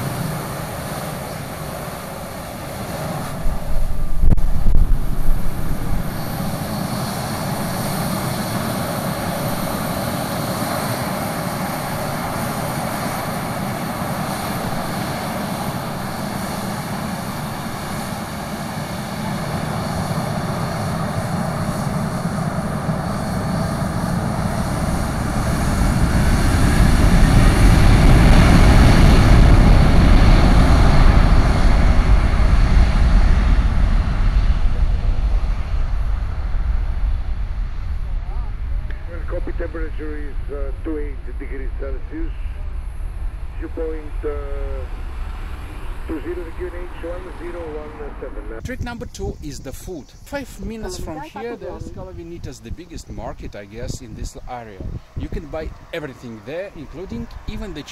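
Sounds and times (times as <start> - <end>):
deep rumble of takeoff roll: 0.0 - 57.9
jet engines hum: 0.0 - 57.9
rising engine whine: 0.0 - 57.9.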